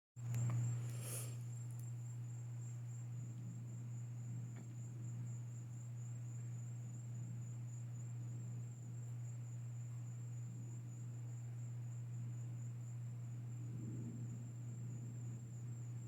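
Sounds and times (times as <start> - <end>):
crickets trilling: 0.2 - 16.0.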